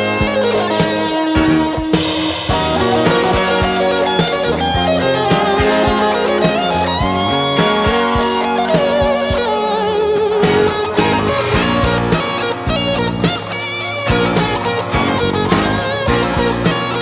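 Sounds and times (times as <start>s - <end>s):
bending guitar note: 0.0s - 17.0s
guitar-led rock music: 0.0s - 17.0s.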